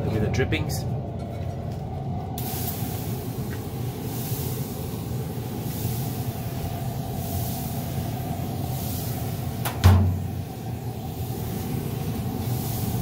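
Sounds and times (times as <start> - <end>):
grill humming: 1.3 - 13.0
pressure sprayer hissing: 2.4 - 13.0.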